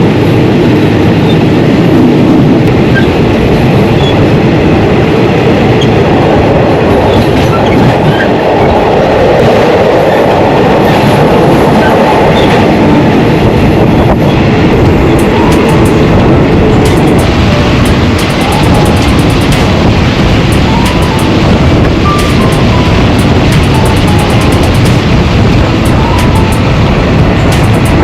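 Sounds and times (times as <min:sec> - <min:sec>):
train carriage rumbling on rails: 0:00.0 - 0:28.0.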